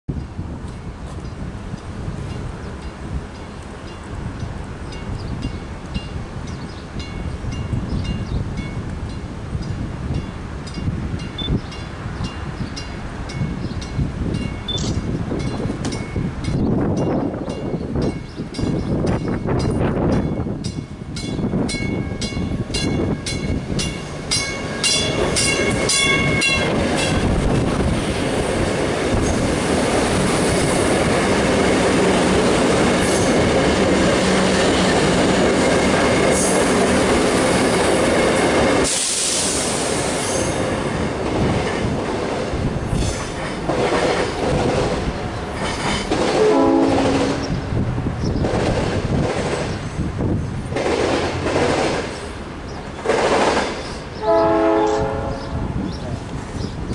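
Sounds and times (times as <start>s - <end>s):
train roaring past: 0.1s - 56.9s.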